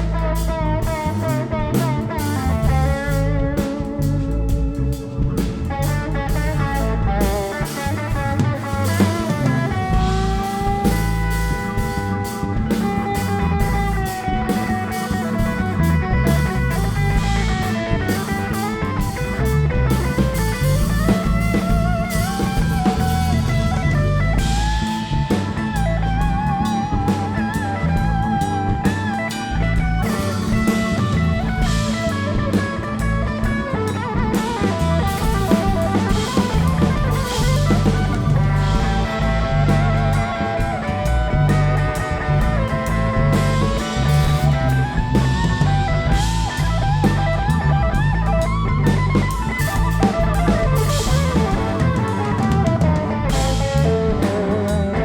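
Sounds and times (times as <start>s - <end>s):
bass guitar: 0.0s - 55.0s
drum kit: 0.0s - 55.0s
electric lead guitar: 0.0s - 55.0s.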